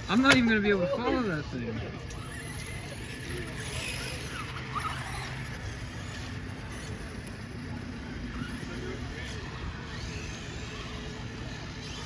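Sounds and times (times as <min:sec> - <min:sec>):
rc car motor and tyres: 0:00.0 - 0:12.0.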